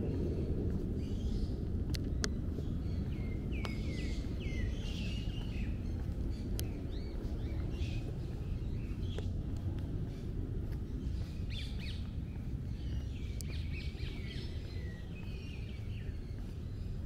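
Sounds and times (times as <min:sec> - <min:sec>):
low background rumble: 0:00.0 - 0:17.0
small birds chirping: 0:00.0 - 0:17.0.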